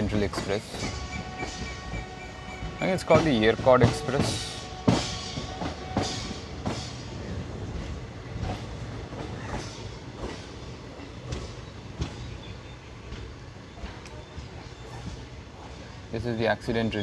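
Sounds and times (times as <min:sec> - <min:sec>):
train low rumble: 0:00.0 - 0:17.0
train wheel clacks over rail joints: 0:00.0 - 0:17.0.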